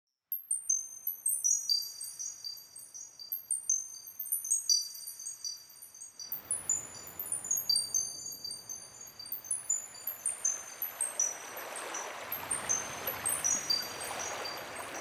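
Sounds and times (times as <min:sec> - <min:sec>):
wind chimes ringing: 0:00.4 - 0:15.0.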